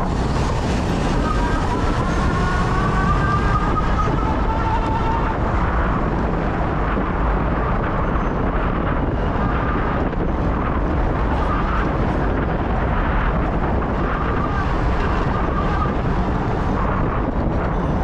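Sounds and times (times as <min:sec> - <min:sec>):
traffic rumble: 0:00.0 - 0:18.0
wind on microphone: 0:00.0 - 0:18.0.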